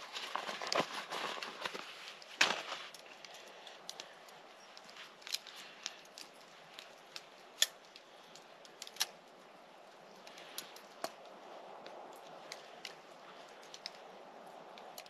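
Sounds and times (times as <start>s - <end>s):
campfire wood snapping: 0.0s - 15.0s
faint steady fire hiss: 0.0s - 15.0s.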